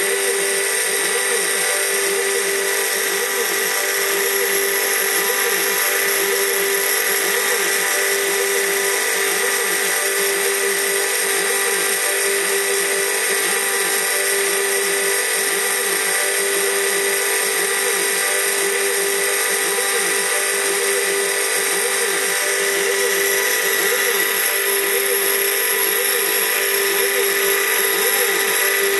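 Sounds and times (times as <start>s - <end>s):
drive motors rising and falling tones: 0.0s - 28.9s
router spindle high whine: 0.0s - 28.9s.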